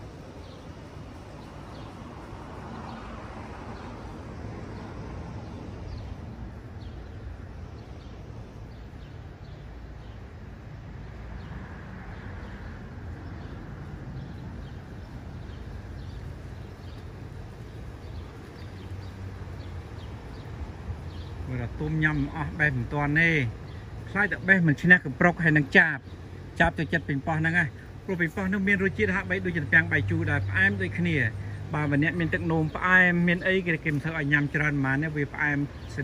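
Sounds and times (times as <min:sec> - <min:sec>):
low street rumble: 0:00.0 - 0:36.0.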